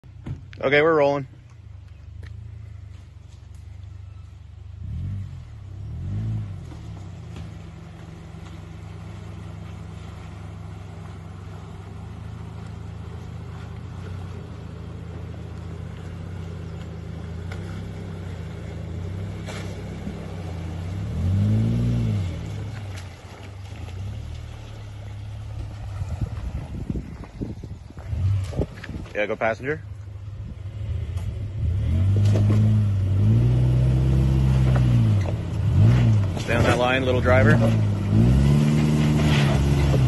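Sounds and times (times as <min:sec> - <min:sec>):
car driving through water: 0:01.5 - 0:40.0
car engine revving: 0:04.0 - 0:40.0.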